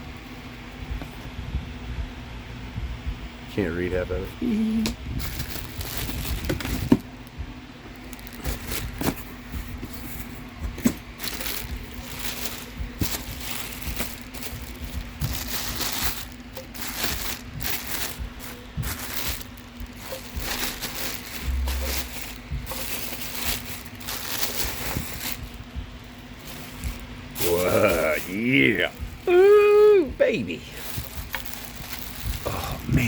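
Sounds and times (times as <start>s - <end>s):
low hum: 4.3s - 33.0s
cardboard rustling and tearing: 5.2s - 29.4s, 30.7s - 33.0s.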